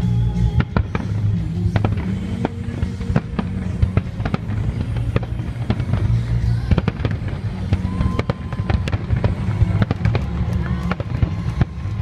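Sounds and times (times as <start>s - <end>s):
fireworks bursting with sharp bangs: 0.0s - 12.0s
music with low bass: 0.0s - 12.0s.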